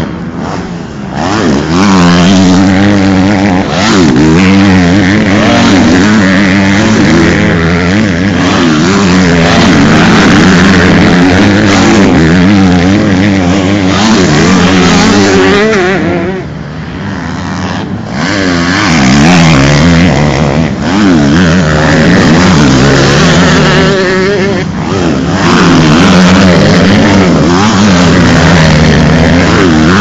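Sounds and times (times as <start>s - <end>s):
motocross bikes revving past: 0.0s - 30.0s.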